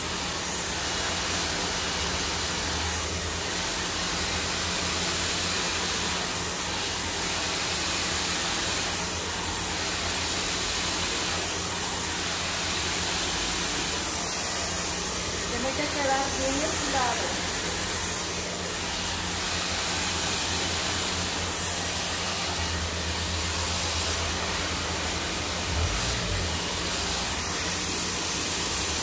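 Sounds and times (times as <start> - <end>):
hair dryer running: 0.0 - 29.0.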